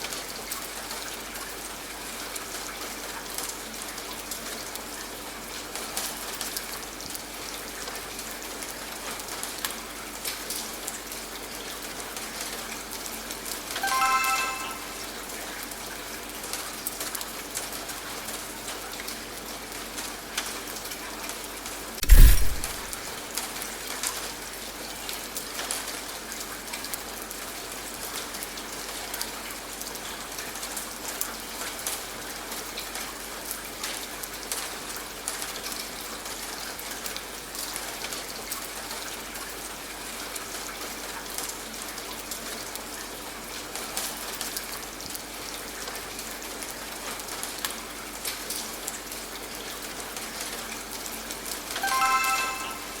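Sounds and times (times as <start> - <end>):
steady rain: 0.0 - 14.8, 17.1 - 52.8.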